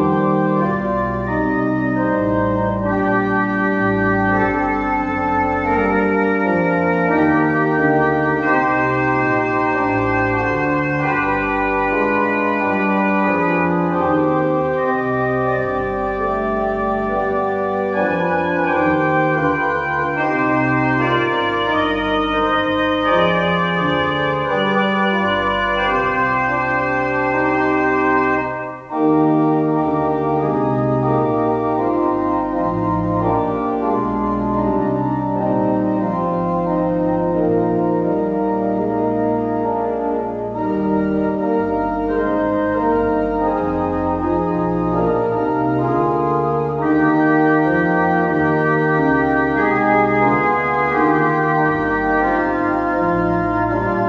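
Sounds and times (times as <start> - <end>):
pipe organ playing chords: 0.0 - 54.0.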